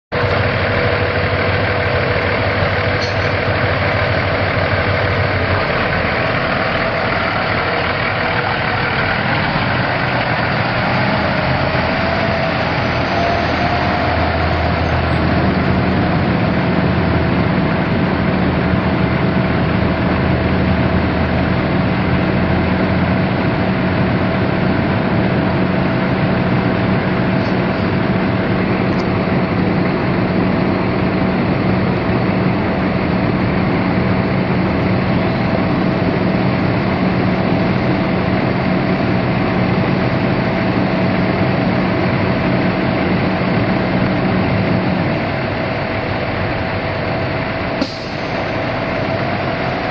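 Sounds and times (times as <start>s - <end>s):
diesel truck engine idling: 0.1s - 49.9s.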